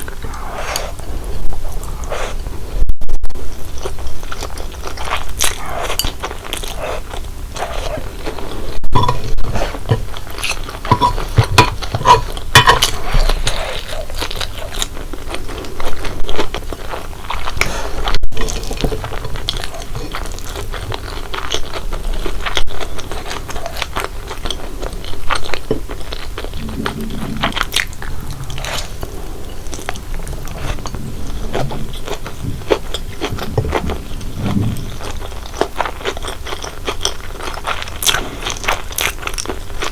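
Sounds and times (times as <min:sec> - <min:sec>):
wet chewing noises: 0:03.5 - 0:39.9.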